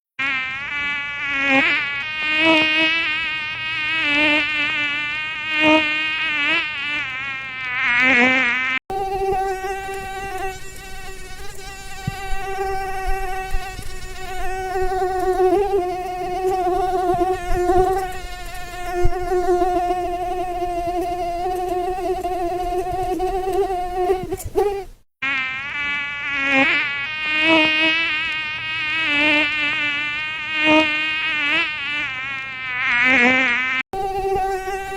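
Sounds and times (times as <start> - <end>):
mosquito buzzing whine: 0.2 - 34.9.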